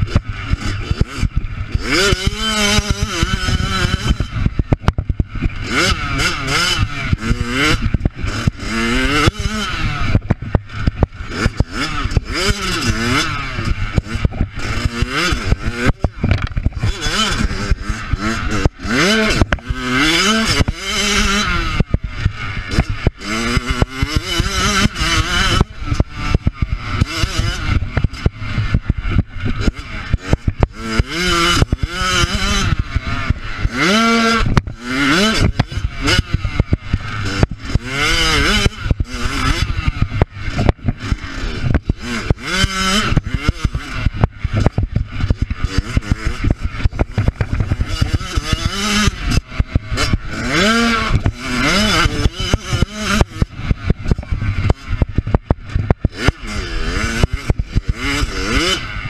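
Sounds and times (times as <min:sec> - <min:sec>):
knocks and rattles from rough track: 0:00.0 - 0:59.0
motocross bike engine revving: 0:00.0 - 0:59.0.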